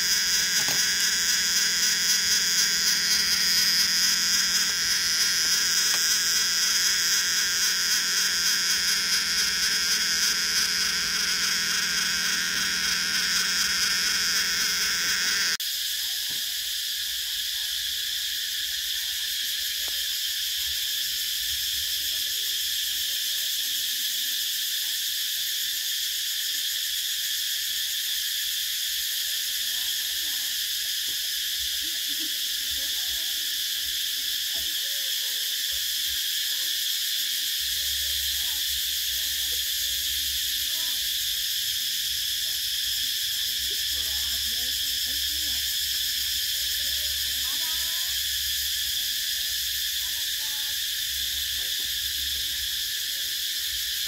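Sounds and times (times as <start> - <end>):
cicadas singing: 0.0 - 54.0.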